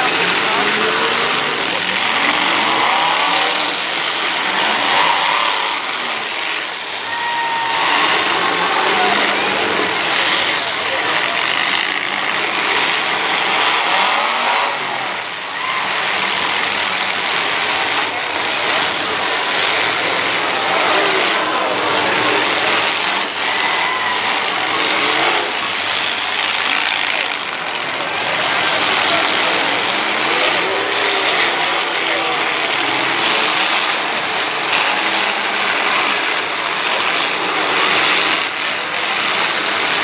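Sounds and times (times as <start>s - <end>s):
many car engines revving: 0.0s - 40.0s.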